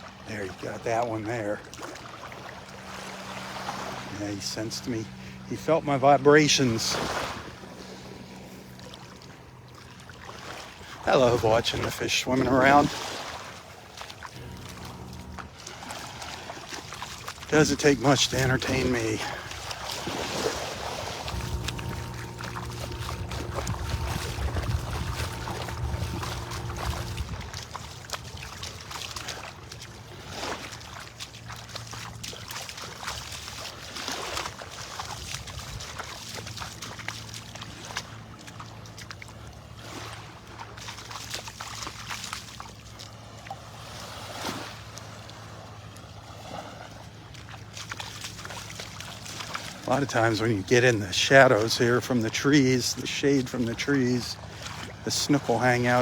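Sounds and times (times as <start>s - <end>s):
boat engine drone: 0.0s - 56.0s
water lapping at shore: 0.0s - 56.0s.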